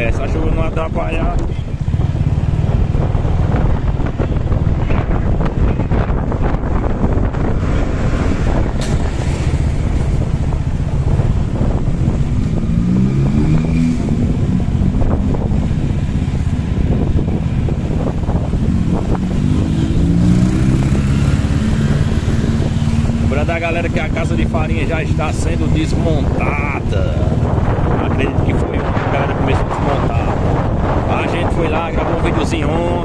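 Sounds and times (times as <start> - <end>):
wind noise on microphone: 0.0 - 33.0
vehicle engine accelerating: 1.4 - 32.9.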